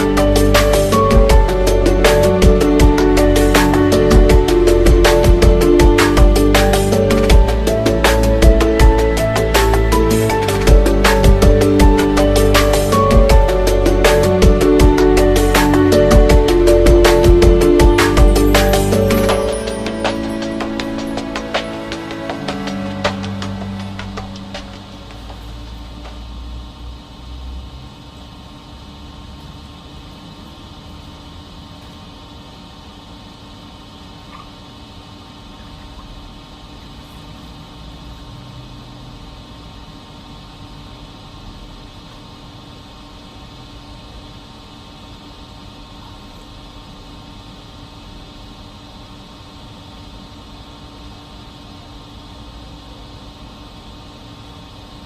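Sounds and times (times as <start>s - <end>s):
mechanical hum with constant tone: 0.0s - 55.0s.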